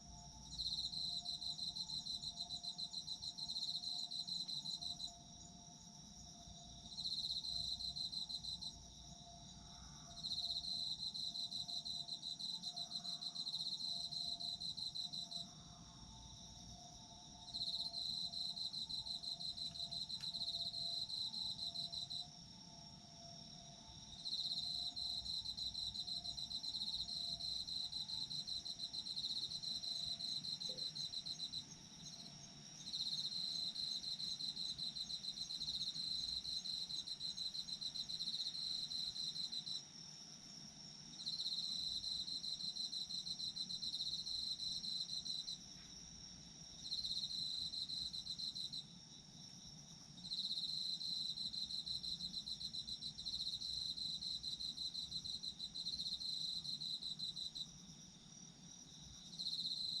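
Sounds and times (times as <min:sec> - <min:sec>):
cricket chirping in pulsed trains: 0:00.0 - 1:00.0.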